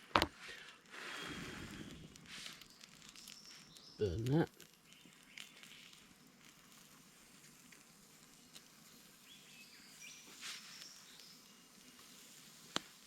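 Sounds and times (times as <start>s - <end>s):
cheese sizzling over campfire: 0.0s - 13.0s
small crackles: 0.0s - 13.0s.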